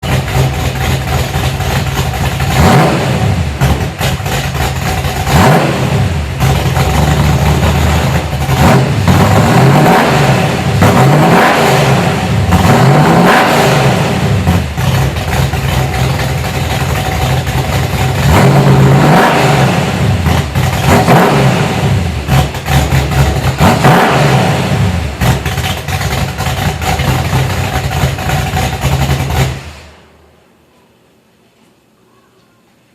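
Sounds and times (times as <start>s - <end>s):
engine revving: 0.0s - 30.0s.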